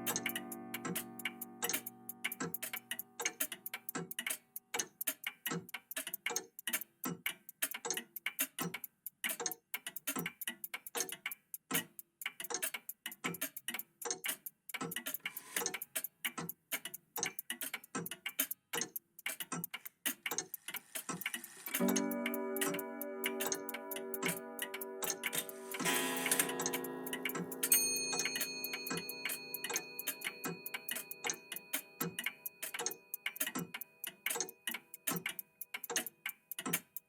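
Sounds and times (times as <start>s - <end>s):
mechanical clocks ticking: 0.0s - 37.0s.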